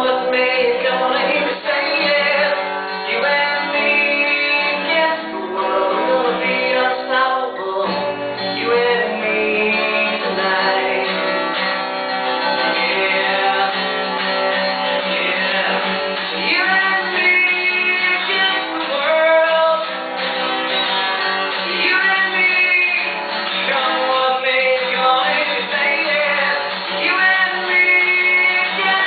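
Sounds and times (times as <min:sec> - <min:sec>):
man singing: 0:00.0 - 0:20.1, 0:21.5 - 0:29.0
acoustic guitar: 0:00.0 - 0:29.0.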